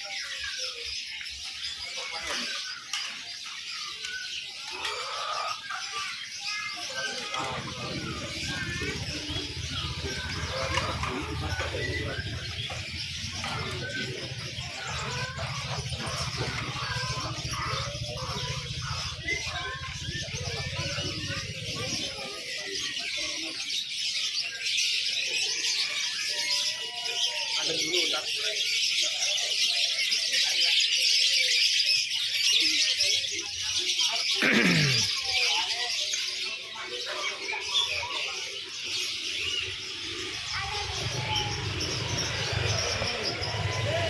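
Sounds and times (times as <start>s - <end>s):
songbirds chirping in chorus: 0.0s - 44.0s.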